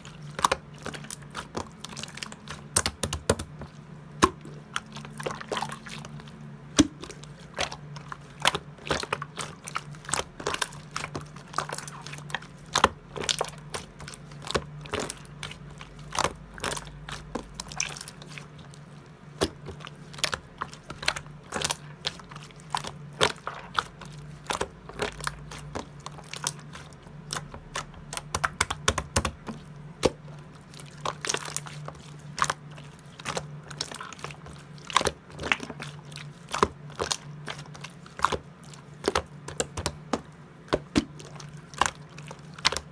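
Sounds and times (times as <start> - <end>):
slime squished by hand: 0.0 - 42.9.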